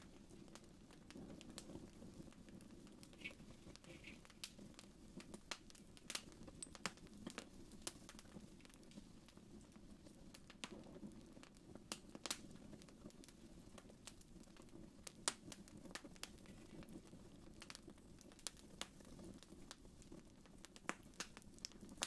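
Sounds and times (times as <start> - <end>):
sharp pops of fire: 0.0 - 22.0
wood fire crackling: 0.0 - 22.0.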